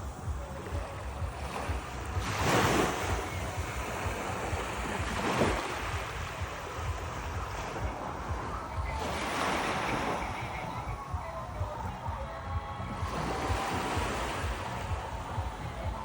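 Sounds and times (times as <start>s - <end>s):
sea waves washing onto shore: 0.0s - 11.8s, 12.8s - 16.0s
wind buffeting microphone: 0.0s - 16.0s.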